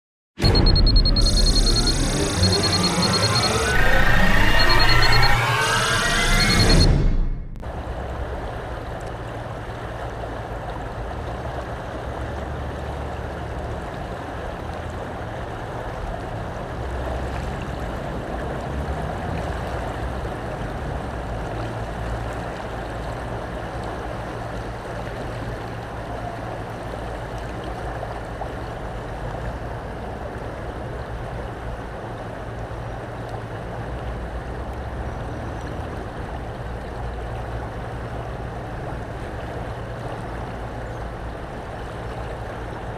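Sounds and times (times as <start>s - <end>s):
low water rumble: 0.5s - 42.9s.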